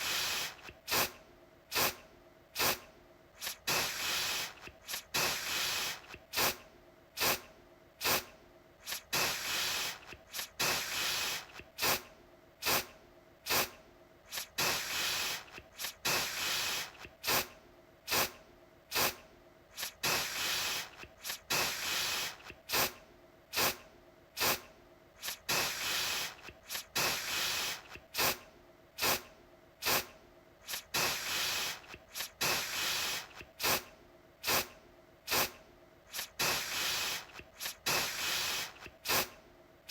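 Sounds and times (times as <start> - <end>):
aerosol can spraying: 0.0 - 1.1, 1.7 - 2.0, 2.6 - 2.8, 3.4 - 6.6, 7.2 - 7.4, 8.0 - 12.9, 13.5 - 17.5, 18.1 - 18.3, 18.9 - 23.8, 24.4 - 24.6, 25.2 - 28.4, 29.0 - 34.7, 35.3 - 39.4.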